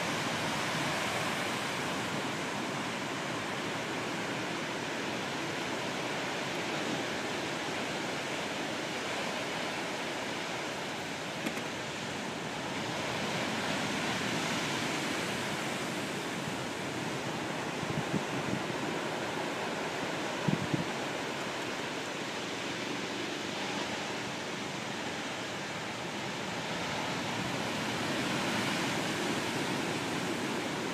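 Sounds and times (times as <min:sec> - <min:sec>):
waves breaking on shore: 0:00.0 - 0:30.9.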